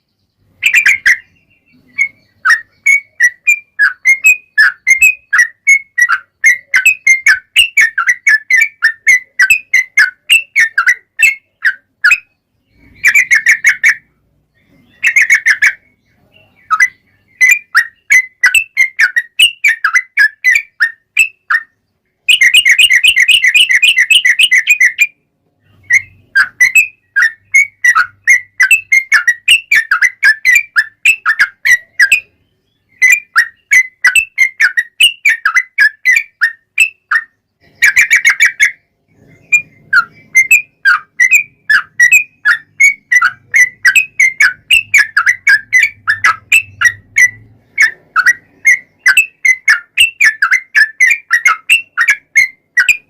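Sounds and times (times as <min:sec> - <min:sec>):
bird chirping whistled notes: 0:00.0 - 0:53.0
bird rapid trill: 0:00.0 - 0:53.0.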